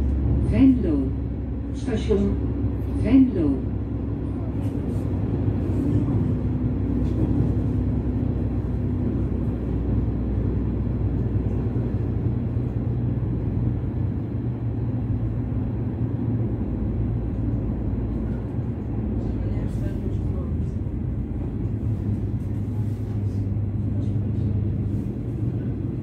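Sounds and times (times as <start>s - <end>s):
train rumbling on tracks: 0.0s - 26.0s.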